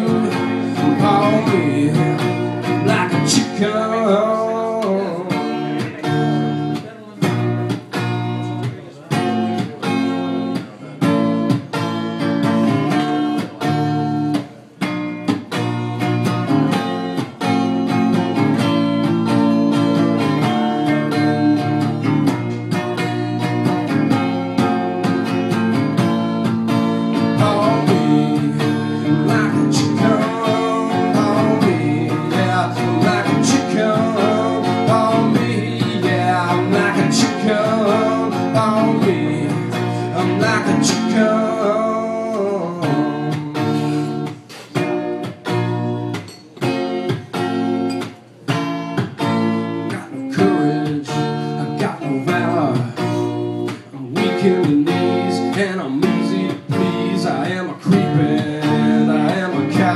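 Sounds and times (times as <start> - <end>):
electric guitar solo: 0.0 - 57.4.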